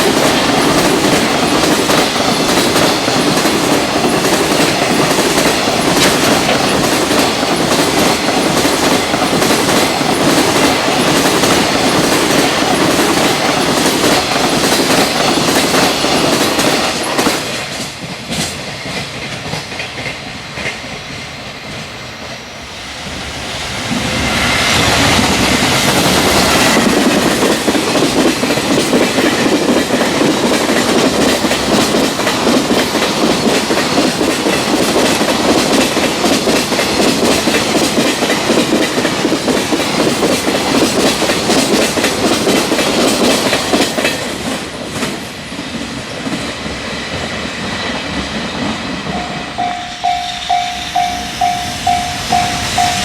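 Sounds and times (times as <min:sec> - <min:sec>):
train wheels clattering over rails: 0:00.0 - 0:22.4, 0:23.0 - 0:53.0.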